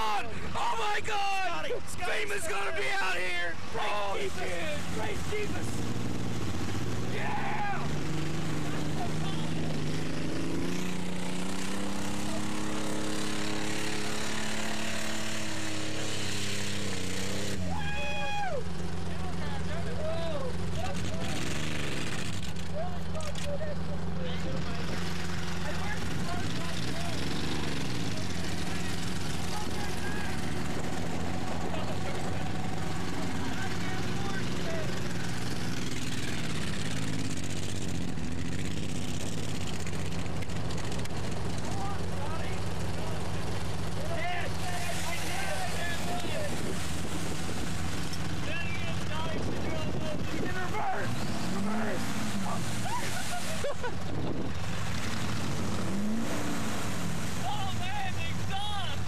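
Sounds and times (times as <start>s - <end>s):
truck engine at high revs: 0.0s - 59.0s.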